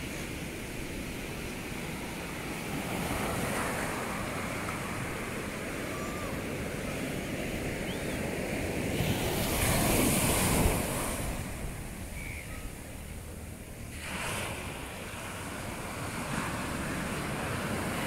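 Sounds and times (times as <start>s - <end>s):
ocean surf breaking on beach: 0.0s - 18.0s.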